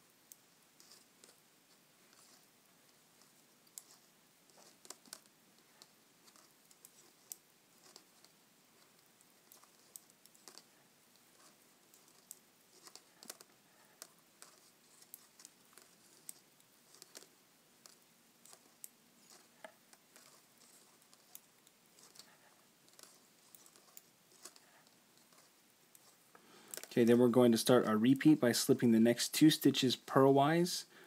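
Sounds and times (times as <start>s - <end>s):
metal knitting needles clicking: 0.2s - 26.9s.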